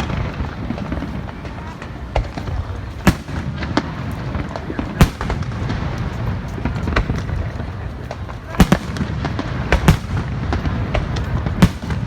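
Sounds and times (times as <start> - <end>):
fireworks bangs: 0.0 - 12.0
fireworks crackles: 0.0 - 12.0.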